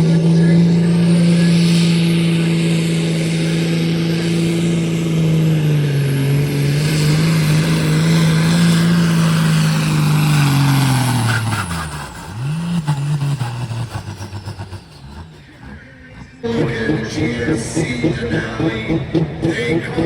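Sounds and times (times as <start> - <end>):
tractor engine revving: 0.0 - 20.0.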